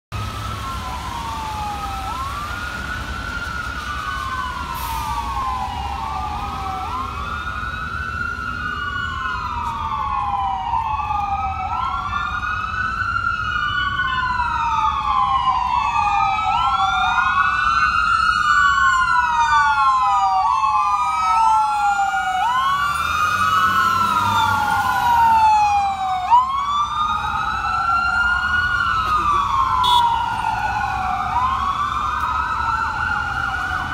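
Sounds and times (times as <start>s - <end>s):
emergency sirens wailing: 0.1s - 33.9s
low rumble of traffic: 0.1s - 33.9s.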